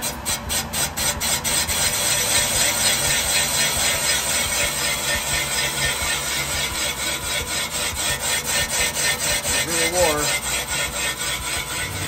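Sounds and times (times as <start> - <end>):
boring bar cutting metal: 0.0 - 12.0.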